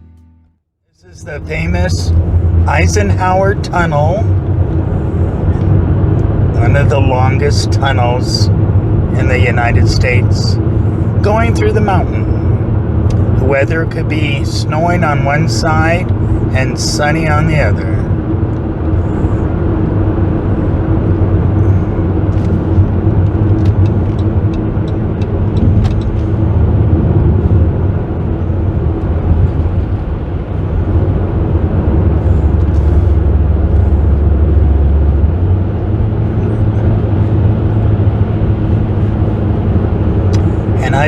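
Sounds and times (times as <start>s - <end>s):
road and engine drone in cabin: 0.0s - 41.0s.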